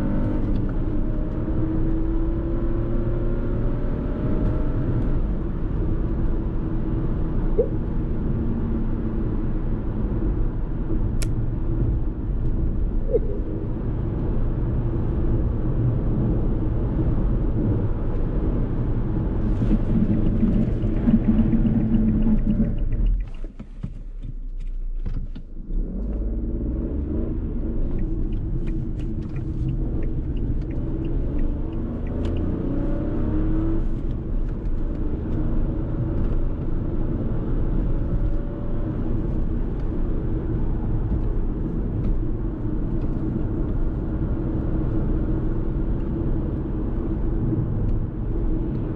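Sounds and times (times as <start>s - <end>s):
car engine running: 0.0s - 48.9s
road and tyre noise: 0.0s - 48.9s.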